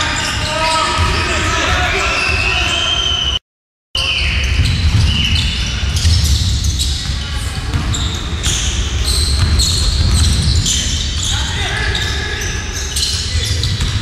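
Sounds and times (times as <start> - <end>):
basketball dribbling in a hall: 0.0 - 3.2, 4.0 - 14.0
shoes squeaking on floor: 0.0 - 3.4, 4.0 - 14.0.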